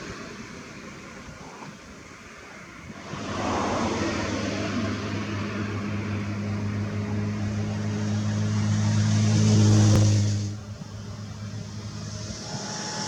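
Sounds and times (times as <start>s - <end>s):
low engine-like hum with hiss: 0.0s - 13.0s.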